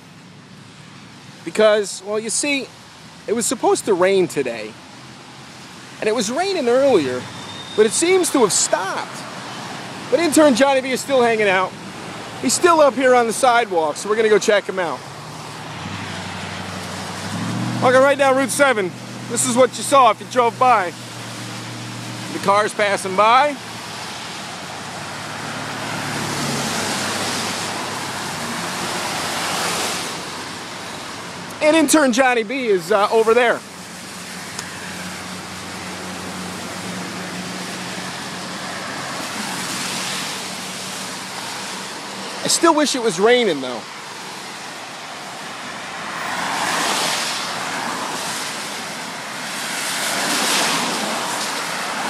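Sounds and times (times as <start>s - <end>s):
cars passing on road: 0.0s - 52.0s.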